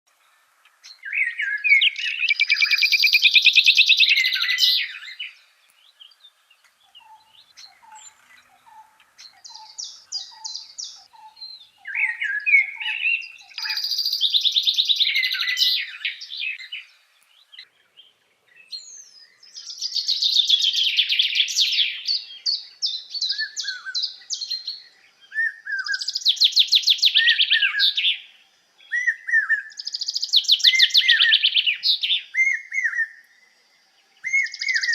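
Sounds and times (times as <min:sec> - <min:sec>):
songbird trills and warbles: 0:00.1 - 0:34.9
down-slurred whistled bird notes: 0:00.8 - 0:34.9.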